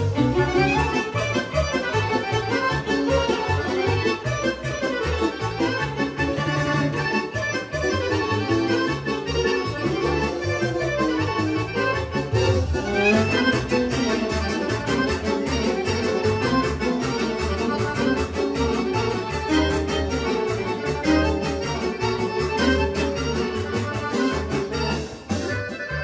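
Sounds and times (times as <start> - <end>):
accordion: 0.0 - 26.0
fast folk dance music: 0.0 - 26.0.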